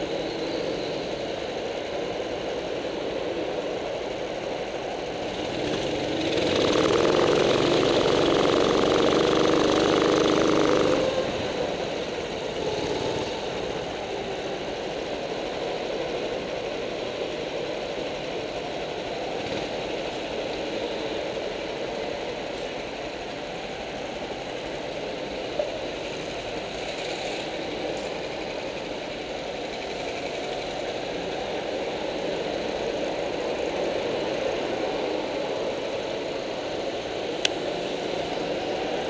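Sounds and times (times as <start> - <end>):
go-kart engines running: 0.0 - 39.0.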